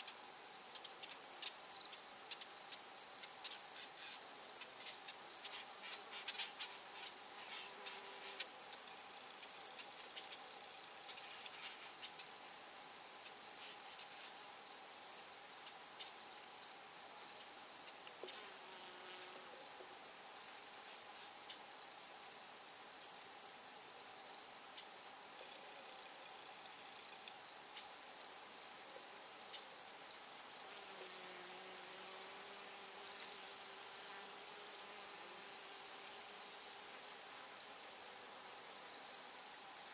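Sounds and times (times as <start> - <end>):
high continuous insect trill: 0.0 - 39.9.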